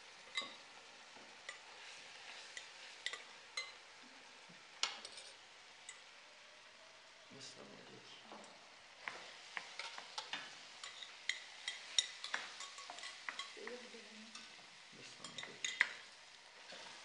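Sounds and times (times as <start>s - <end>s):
meat sizzling in a pot: 0.0s - 17.0s.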